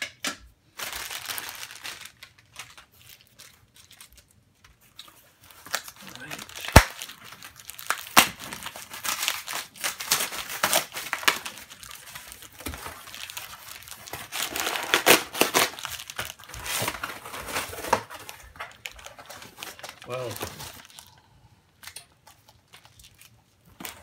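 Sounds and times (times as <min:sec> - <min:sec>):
cardboard ripping and crinkling: 0:00.8 - 0:04.2, 0:04.8 - 0:21.1.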